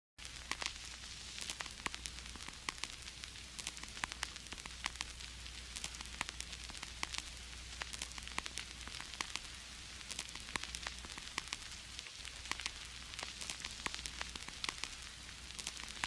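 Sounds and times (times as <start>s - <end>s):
vinyl crackles and pops: 0.2s - 16.0s
vinyl record hiss: 0.2s - 16.0s.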